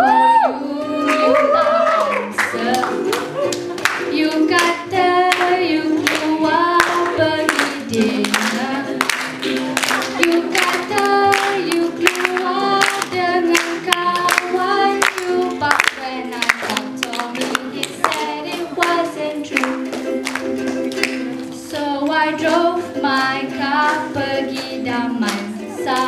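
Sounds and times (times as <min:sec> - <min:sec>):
woman singing into microphone: 0:00.0 - 0:03.4, 0:04.1 - 0:09.3, 0:10.0 - 0:20.0, 0:21.1 - 0:26.0
ukulele: 0:00.0 - 0:26.0.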